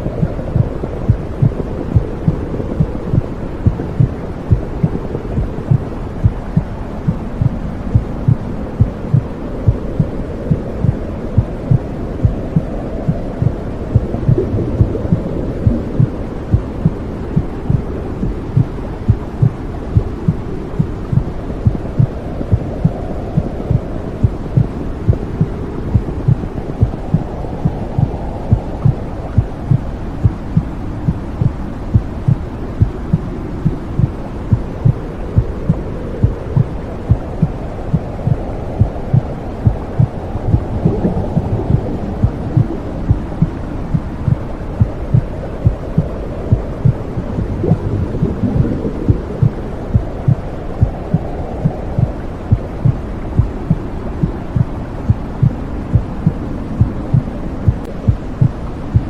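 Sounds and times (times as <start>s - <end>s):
low whooshing rumble: 0.0s - 59.0s
heartbeat thumping: 0.1s - 59.0s.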